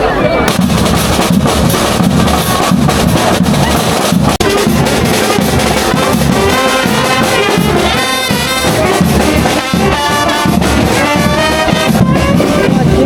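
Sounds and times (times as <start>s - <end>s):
brass band playing: 0.3s - 13.0s.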